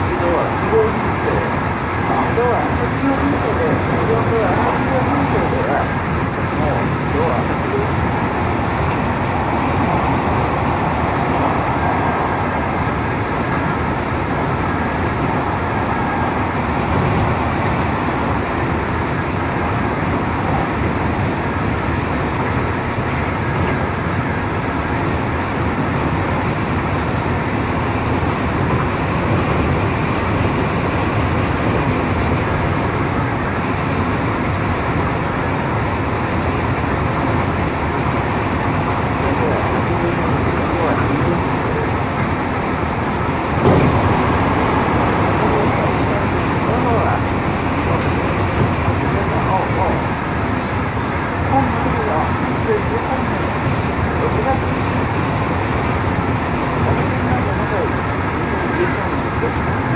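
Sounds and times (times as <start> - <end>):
electric train rumbling: 0.0 - 59.9.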